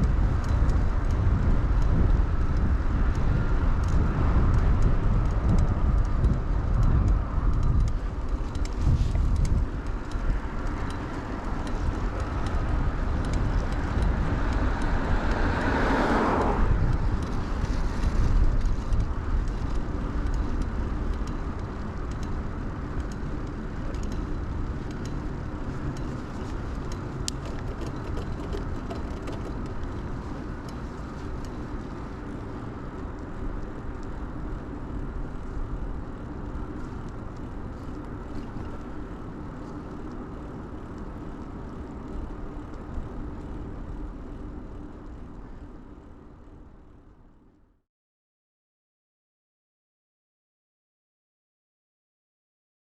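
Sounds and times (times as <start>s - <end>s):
wind rumbling on microphone: 0.0s - 47.6s
car passing: 1.6s - 46.2s.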